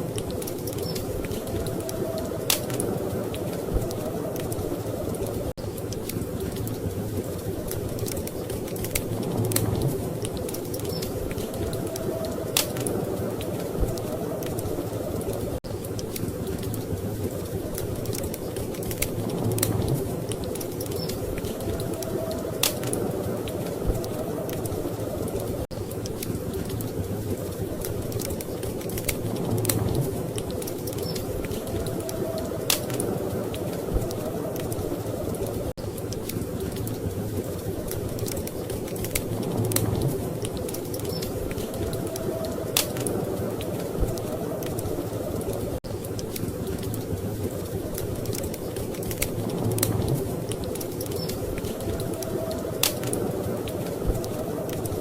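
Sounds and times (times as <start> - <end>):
low rumble of storm wind: 0.0 - 55.0
wood fire crackling and popping: 0.0 - 55.0.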